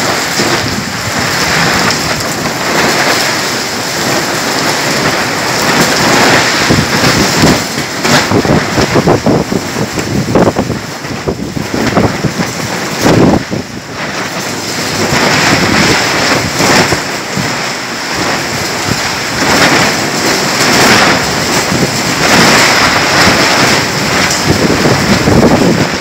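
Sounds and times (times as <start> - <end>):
heavy rain: 0.0 - 26.0
wind gusts buffeting microphone: 0.0 - 26.0.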